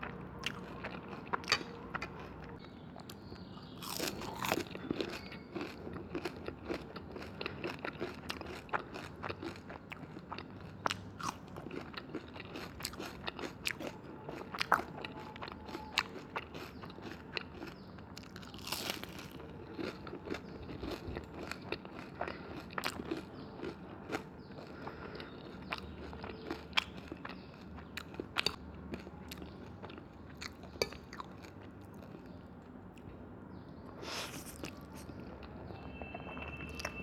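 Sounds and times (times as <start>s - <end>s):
chewing and crunching: 0.0s - 37.0s.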